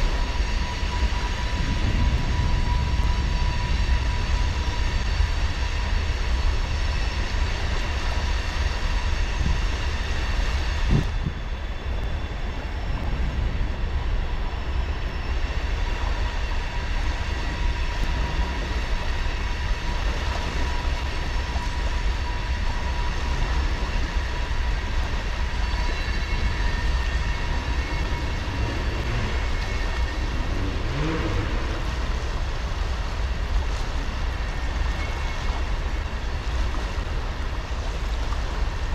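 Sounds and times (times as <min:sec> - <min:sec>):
deep rumble: 0:00.0 - 0:38.9.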